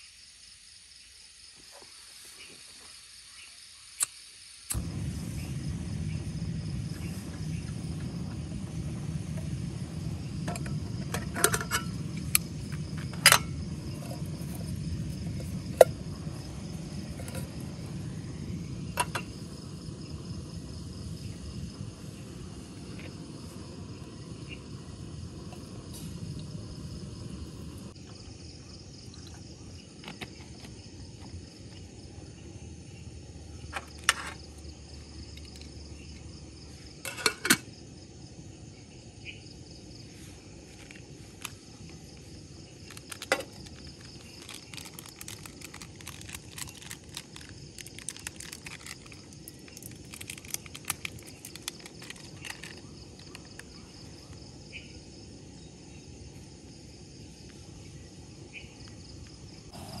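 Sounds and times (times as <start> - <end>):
insects droning: 0.0 - 60.0.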